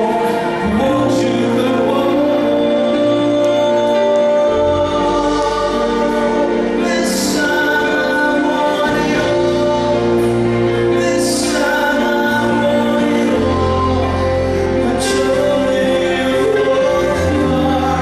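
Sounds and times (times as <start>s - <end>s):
man singing into microphone: 0.0s - 18.0s
recorded backing track: 0.0s - 18.0s.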